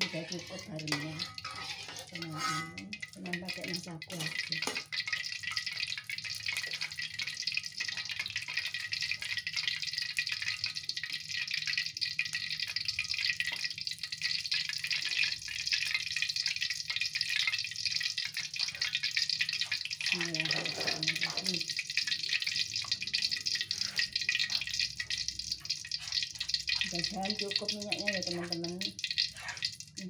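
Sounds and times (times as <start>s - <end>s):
oil sizzling in a wok: 0.0s - 30.0s.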